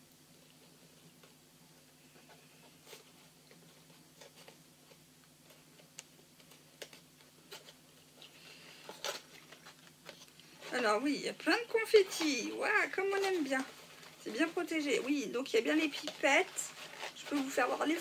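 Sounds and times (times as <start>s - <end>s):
low steady hum: 0.0s - 18.0s
paper rustling: 2.1s - 18.0s.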